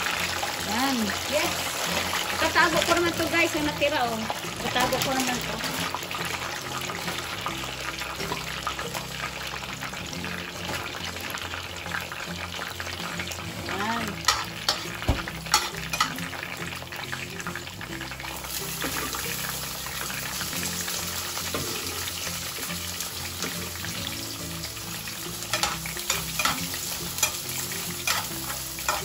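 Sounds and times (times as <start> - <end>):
oil sizzling and crackling: 0.0 - 29.0.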